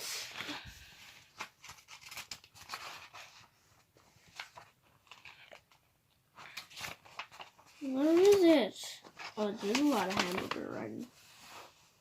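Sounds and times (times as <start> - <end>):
paper pages rustling: 0.2 - 12.0.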